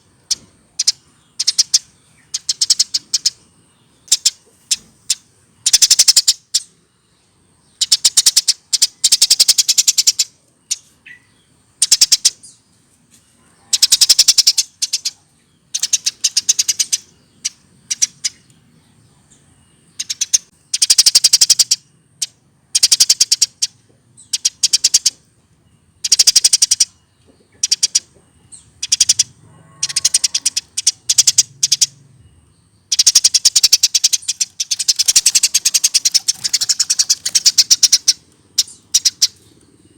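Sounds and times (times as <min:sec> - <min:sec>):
sparrow chirping: 0:00.0 - 0:12.8, 0:13.6 - 0:39.9.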